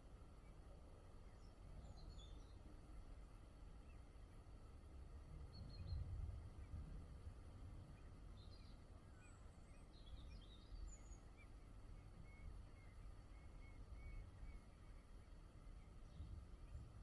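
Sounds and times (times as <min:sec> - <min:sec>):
faint low rumble: 0:00.0 - 0:17.0
small birds chirping faintly: 0:00.0 - 0:17.0.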